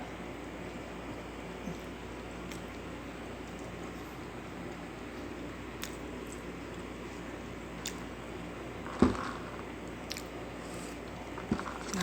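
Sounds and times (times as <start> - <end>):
low background hum: 0.0 - 12.0
chewing pizza: 0.6 - 12.0.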